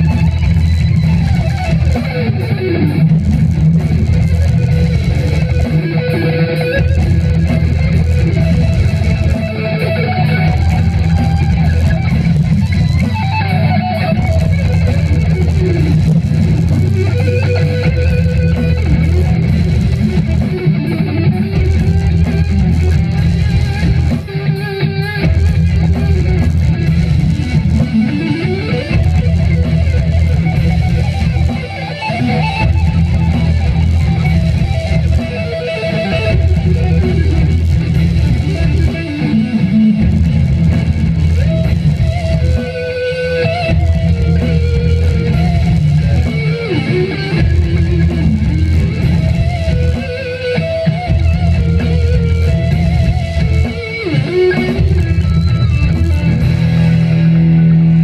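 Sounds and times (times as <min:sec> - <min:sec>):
electric guitar through amplifiers: 0:00.0 - 0:58.0.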